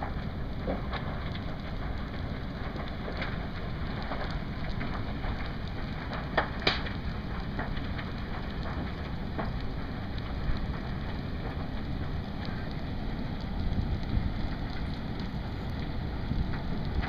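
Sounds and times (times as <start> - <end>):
fire crackling and popping: 0.0 - 17.0
fire rushing: 0.0 - 17.0.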